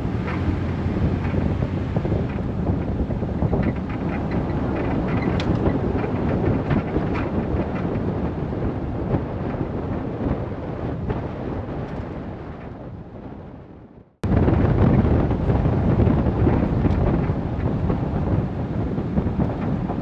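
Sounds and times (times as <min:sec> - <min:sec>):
tyre rumble on dirt road: 0:00.0 - 0:12.8, 0:14.2 - 0:20.0
wind on microphone: 0:00.0 - 0:20.0.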